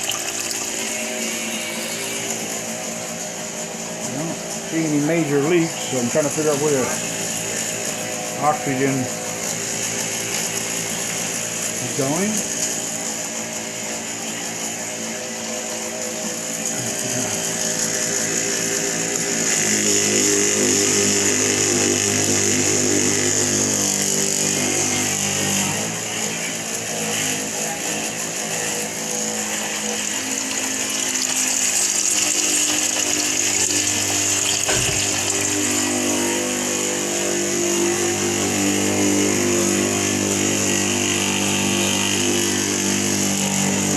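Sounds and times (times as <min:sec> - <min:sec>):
water pump motor humming: 0:00.0 - 0:43.9.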